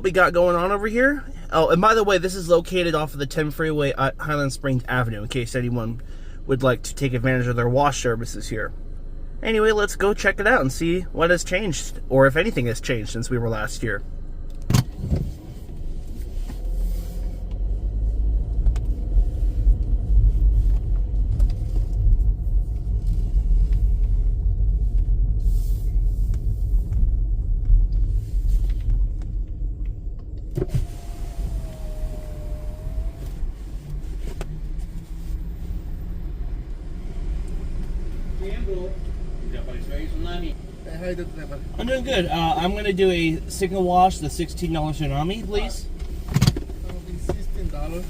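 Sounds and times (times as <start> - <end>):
car engine rumble: 0.0 - 48.0.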